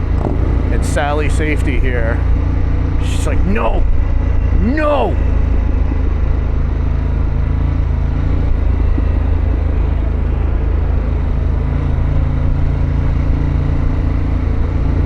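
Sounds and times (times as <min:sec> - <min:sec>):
motorcycle engine steady revs: 0:00.0 - 0:15.0.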